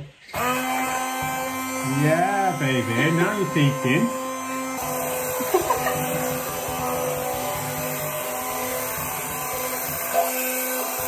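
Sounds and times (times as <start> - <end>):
hand blender motor humming: 0.0 - 11.0.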